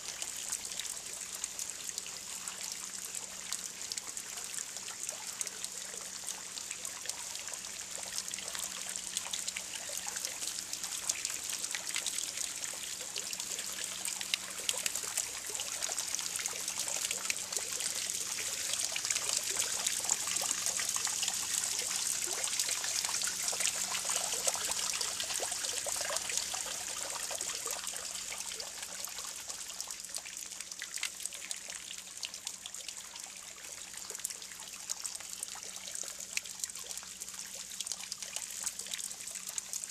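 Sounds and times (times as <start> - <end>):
fountain water splashing into pool: 0.0 - 39.9.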